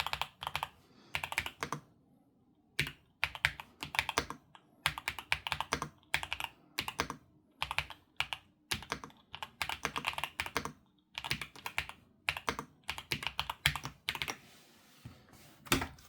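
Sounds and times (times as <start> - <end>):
mechanical keyboard typing: 0.0 - 1.8, 2.8 - 14.4.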